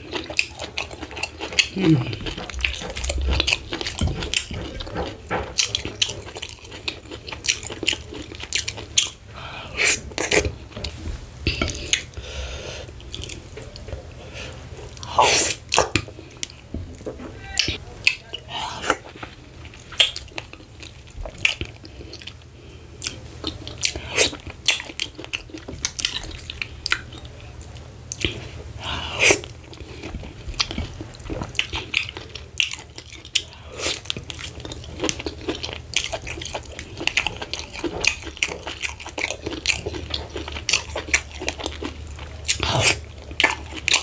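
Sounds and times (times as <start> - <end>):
person chewing and mouth smacking: 0.0 - 12.2, 12.8 - 14.2, 14.8 - 44.0.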